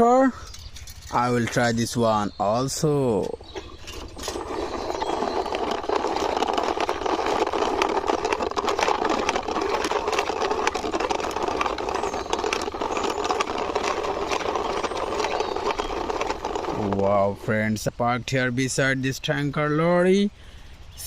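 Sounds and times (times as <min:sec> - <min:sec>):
toy wheels rolling on hard surface: 0:00.3 - 0:17.9.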